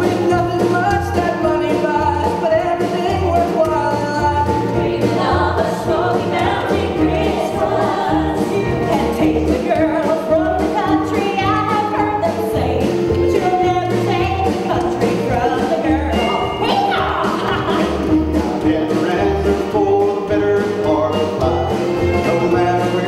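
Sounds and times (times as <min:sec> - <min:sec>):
country band playing: 0:00.0 - 0:23.0
lead vocal singing: 0:00.0 - 0:23.0.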